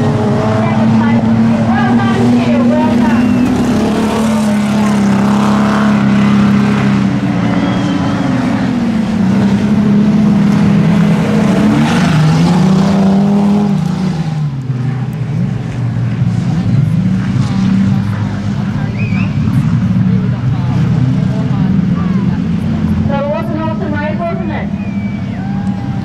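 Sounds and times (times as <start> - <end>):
race car engines running hard: 0.0 - 26.0.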